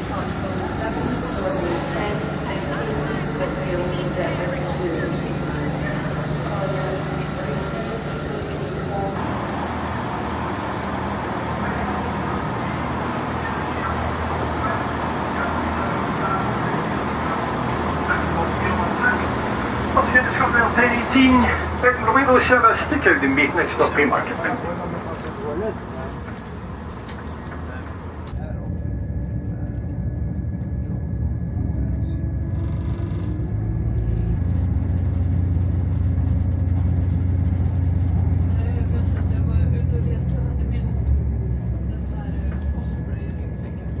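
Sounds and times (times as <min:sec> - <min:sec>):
street traffic noise: 0:00.0 - 0:28.8, 0:30.8 - 0:44.0
vehicle engine humming: 0:00.0 - 0:44.0.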